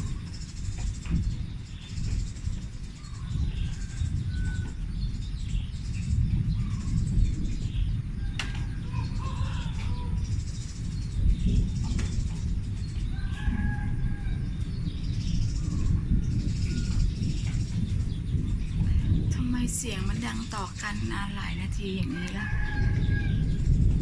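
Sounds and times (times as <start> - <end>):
birds chirping: 0.0 - 24.0
continuous low rumble: 0.0 - 24.0.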